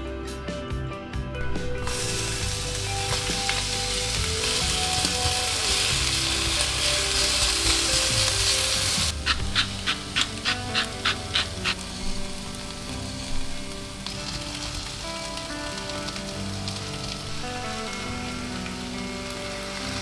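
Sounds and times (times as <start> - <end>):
soft background music: 0.0 - 20.0
onions sizzling in a pan: 1.6 - 20.0.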